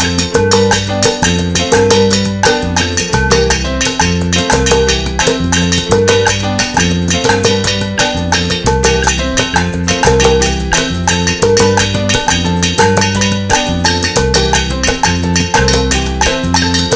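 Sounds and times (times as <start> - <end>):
metal pots struck in rhythm: 0.0 - 16.9
repeating bass line: 0.0 - 16.9.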